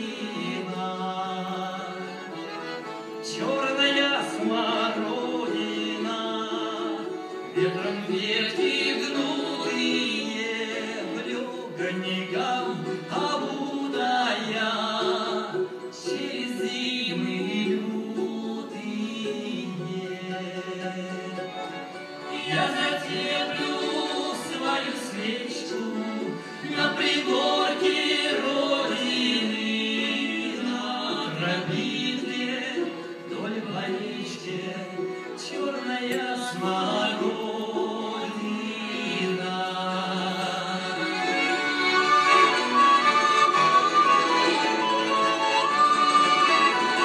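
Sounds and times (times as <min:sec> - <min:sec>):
accordion: 0:00.0 - 0:47.0
group singing in harmony: 0:00.0 - 0:47.0.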